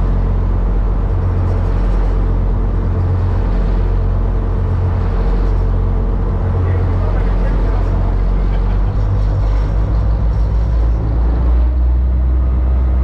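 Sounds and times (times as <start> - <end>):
boat engines droning: 0.0 - 13.0
water and hull noise: 0.0 - 13.0.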